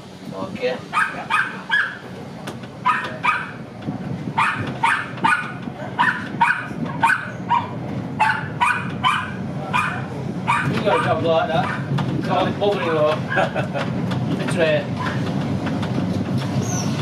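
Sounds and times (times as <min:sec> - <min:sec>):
tram rumble: 0:00.0 - 0:17.0.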